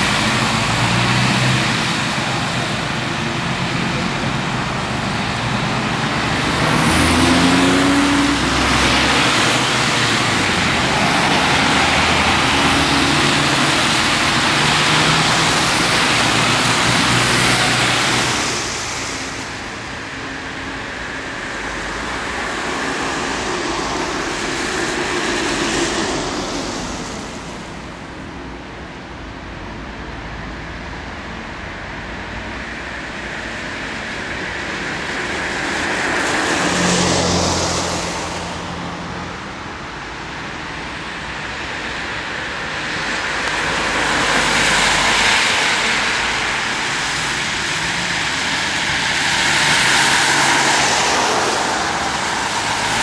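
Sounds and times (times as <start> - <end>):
vehicles driving past: 0.0 - 53.0.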